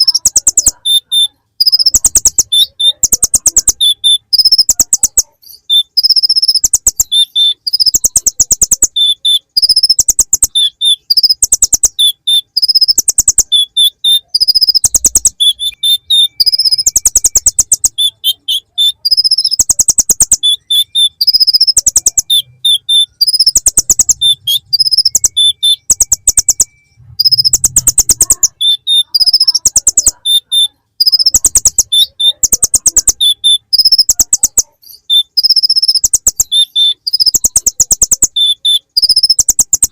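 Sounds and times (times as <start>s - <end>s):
sunbird trilling song: 0.0s - 39.9s.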